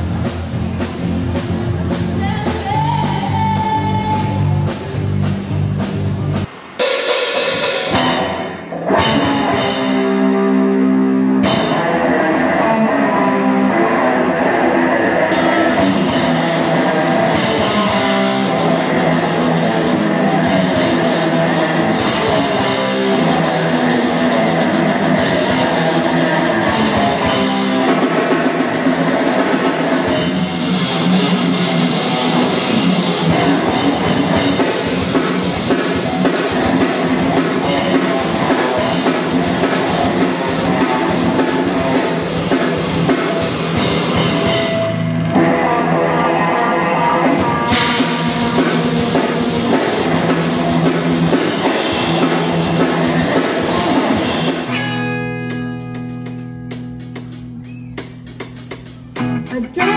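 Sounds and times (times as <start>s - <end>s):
drum kit beat: 0.0s - 12.1s, 15.3s - 45.3s, 47.3s - 59.9s
rock band playing: 0.0s - 59.9s.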